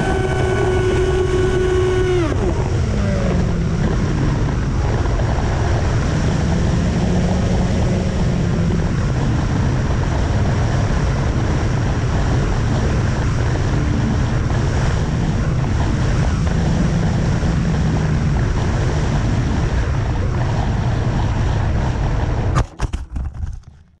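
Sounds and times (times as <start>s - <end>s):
drone motors and propellers: 0.0s - 23.9s
wind rumble: 0.0s - 24.0s.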